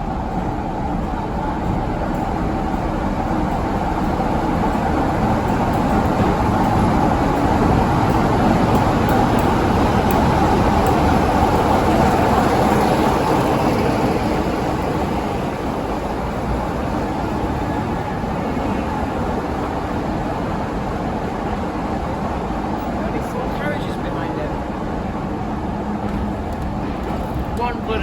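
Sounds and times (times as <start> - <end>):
diesel locomotive passing: 0.0 - 28.0.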